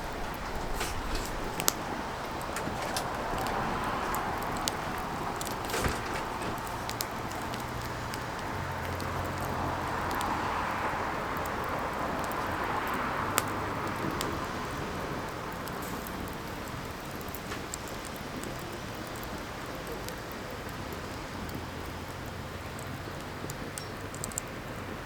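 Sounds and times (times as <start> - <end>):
firewood crackling and popping: 0.0 - 25.0
flames hissing: 0.0 - 25.0.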